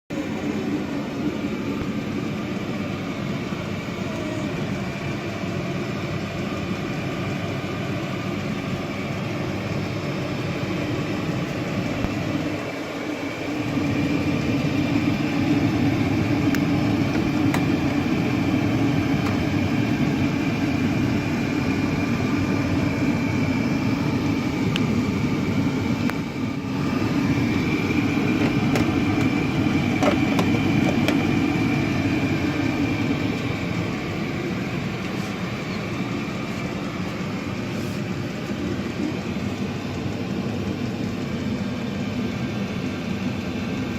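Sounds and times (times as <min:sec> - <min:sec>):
diesel air heater running: 0:00.1 - 0:43.9.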